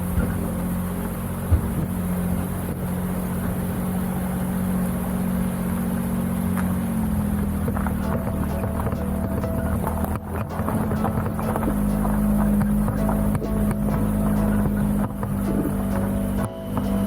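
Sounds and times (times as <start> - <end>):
small car engine droning: 0.0 - 17.0.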